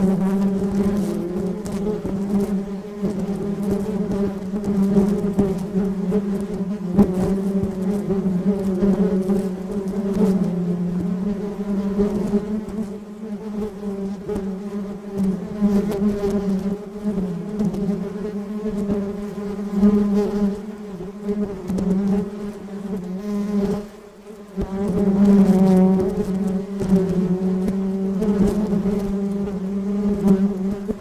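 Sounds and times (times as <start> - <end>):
honey bees buzzing: 0.0 - 31.0.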